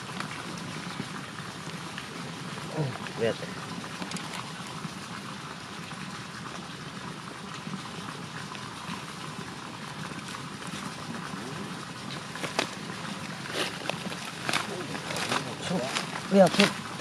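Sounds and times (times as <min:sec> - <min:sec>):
rustling leaves and twigs: 0:00.0 - 0:05.2, 0:08.5 - 0:17.0.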